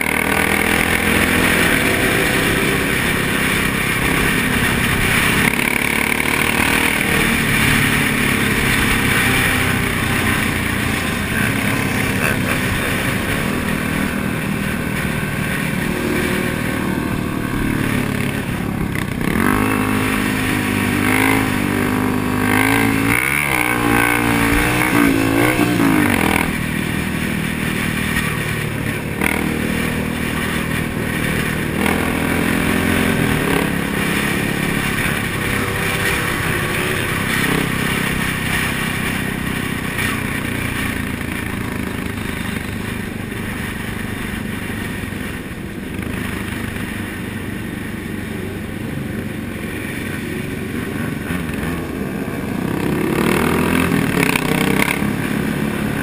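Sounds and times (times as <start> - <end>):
motorcycle engines running: 0.0 - 56.0
motorcycle revving and accelerating: 0.0 - 56.0.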